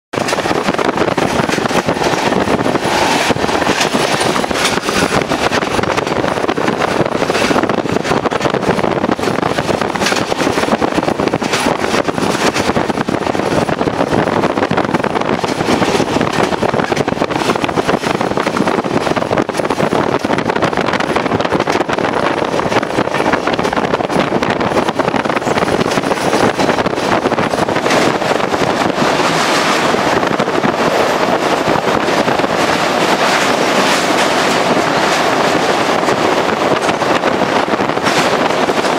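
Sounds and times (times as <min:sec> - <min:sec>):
train wheels rushing on track: 0:00.1 - 0:38.9
wind on microphone: 0:00.1 - 0:38.9.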